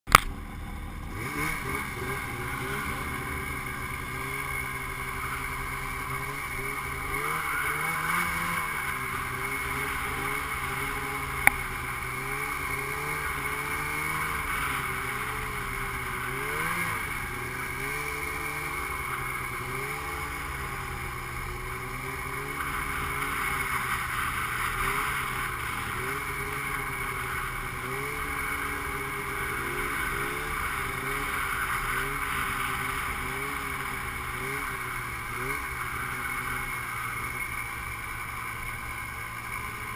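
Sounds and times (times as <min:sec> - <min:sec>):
snowmobile engine revving: 0:00.1 - 0:39.9.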